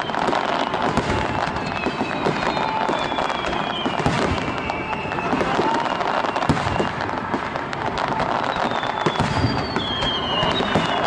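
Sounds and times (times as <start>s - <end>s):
fireworks popping and crackling: 0.0s - 11.0s
fireworks whistling: 0.0s - 11.0s.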